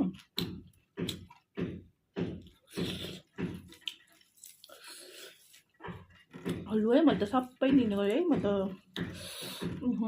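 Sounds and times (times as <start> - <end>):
person chewing wet food: 0.0 - 10.0.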